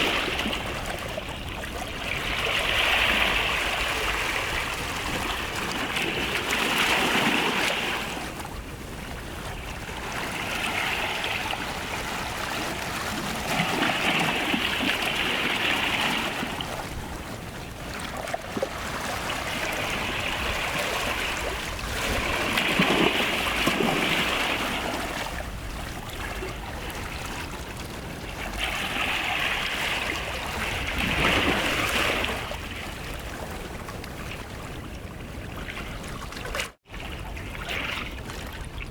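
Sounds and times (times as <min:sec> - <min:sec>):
small waves washing on beach: 0:00.0 - 0:38.9.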